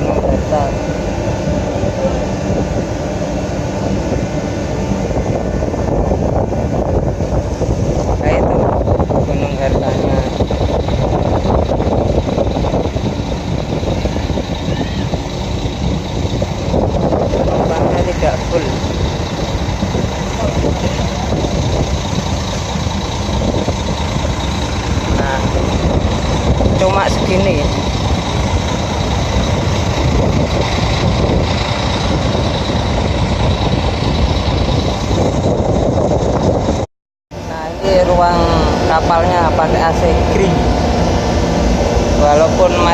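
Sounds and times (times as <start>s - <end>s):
ship engines rumbling: 0.0s - 42.9s.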